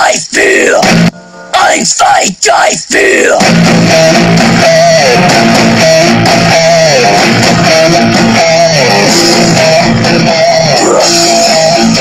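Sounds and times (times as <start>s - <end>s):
loud guitar riff: 0.0s - 1.9s, 3.4s - 12.0s.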